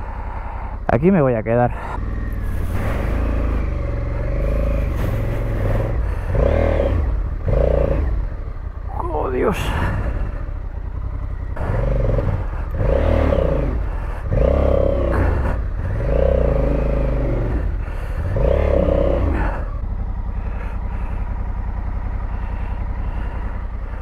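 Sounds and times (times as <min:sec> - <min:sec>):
motorcycle engine revving: 0:01.7 - 0:24.0.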